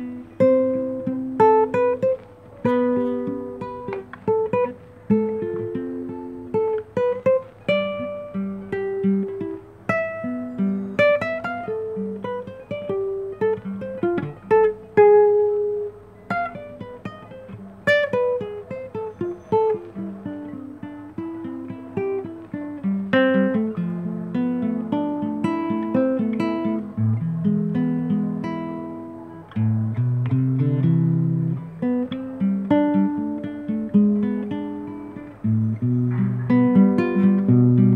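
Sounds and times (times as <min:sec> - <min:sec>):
fingerpicked classical guitar: 0:00.0 - 0:37.9.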